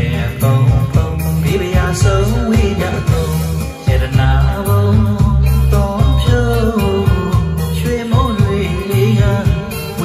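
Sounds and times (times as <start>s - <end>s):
song with heavy bass: 0.0s - 10.0s.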